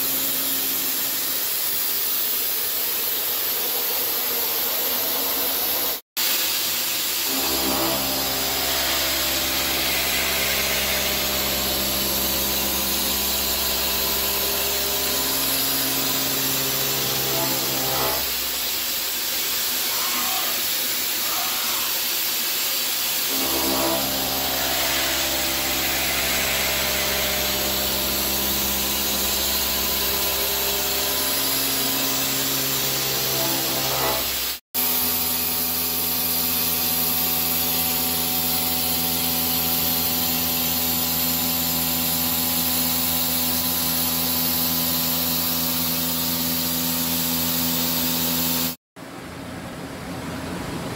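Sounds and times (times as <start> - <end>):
milling machine humming: 0.0 - 6.0, 7.0 - 19.2, 23.3 - 48.7.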